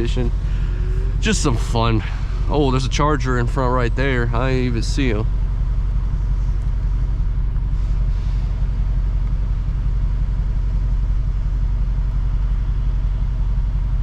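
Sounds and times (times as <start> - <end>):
car engine exhaust rumble: 0.0 - 14.0.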